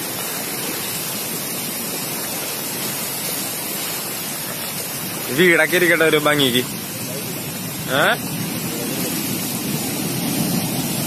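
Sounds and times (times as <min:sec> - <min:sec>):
seawater rushing over ground: 0:00.0 - 0:11.0.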